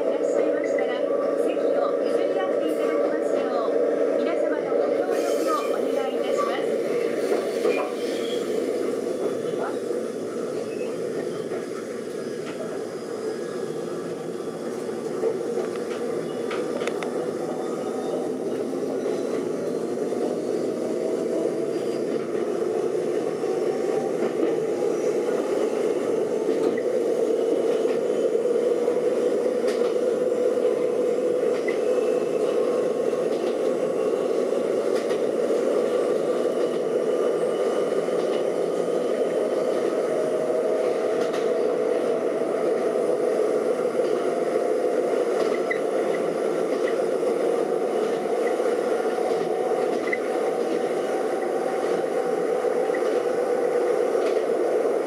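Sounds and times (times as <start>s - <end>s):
wheels rumbling on track: 0.0s - 55.0s.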